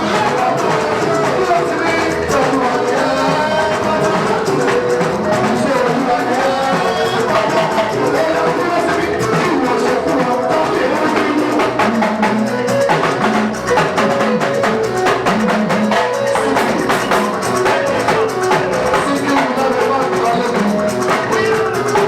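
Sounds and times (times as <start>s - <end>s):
music with drums and percussion: 0.0s - 22.0s.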